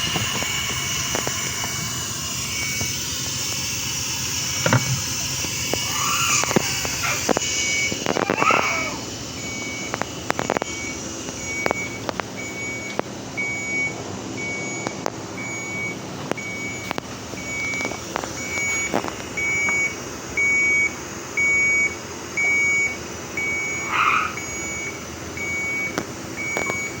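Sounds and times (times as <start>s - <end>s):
patient monitor alarm beeping: 0.0s - 27.0s.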